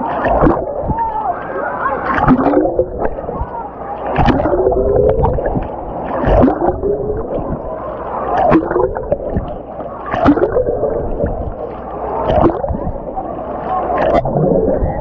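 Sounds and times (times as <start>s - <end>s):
muffled underwater churning: 0.0s - 15.0s.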